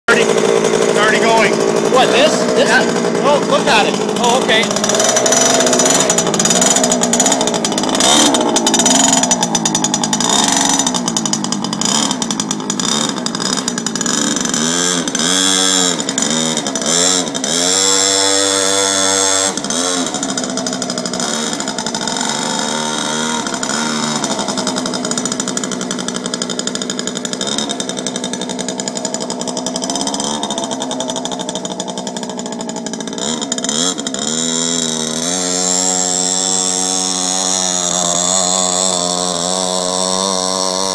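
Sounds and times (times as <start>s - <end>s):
small motorbike engine running hard: 0.0s - 40.9s.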